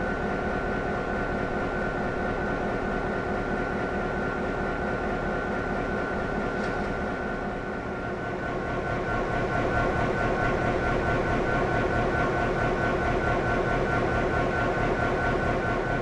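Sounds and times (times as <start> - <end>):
constant high whine: 0.0 - 16.0.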